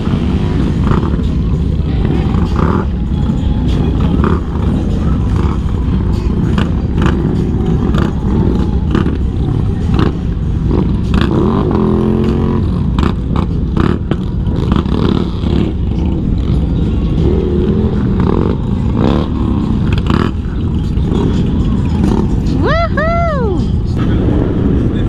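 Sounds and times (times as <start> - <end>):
group of motorcycles riding: 0.0 - 25.0
motorcycle engines revving: 0.0 - 25.0.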